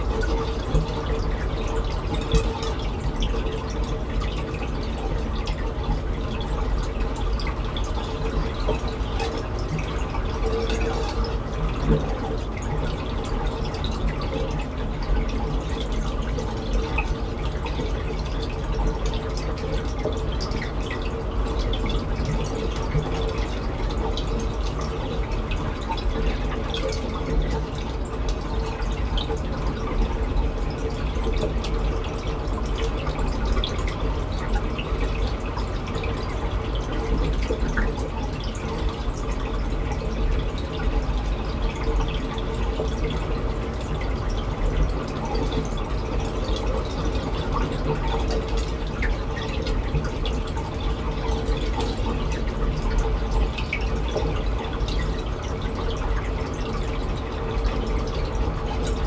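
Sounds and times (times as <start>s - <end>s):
faint steady hum: 0.0s - 59.0s
water trickling and dripping: 0.0s - 59.0s.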